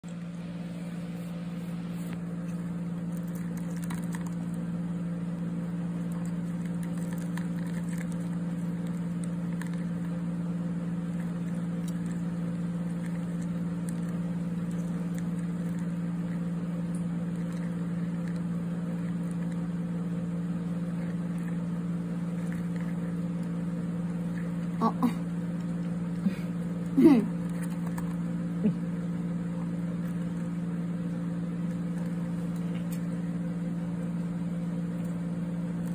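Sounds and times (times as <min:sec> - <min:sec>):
low electric motor hum: 0:00.0 - 0:35.9.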